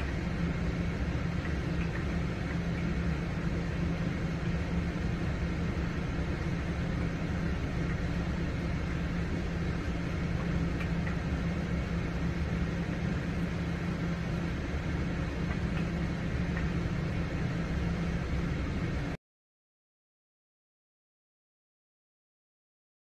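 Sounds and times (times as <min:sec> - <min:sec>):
low machine hum: 0:00.0 - 0:19.2.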